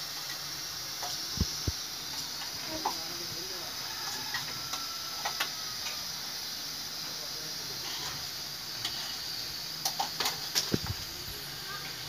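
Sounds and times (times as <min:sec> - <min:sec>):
pressure cooker hissing: 0:00.0 - 0:12.0.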